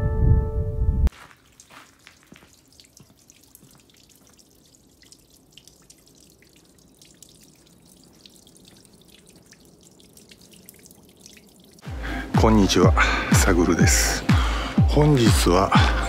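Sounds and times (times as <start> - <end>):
low steady water sound: 1.1 - 16.0
water dripping into stone basin: 1.1 - 16.0.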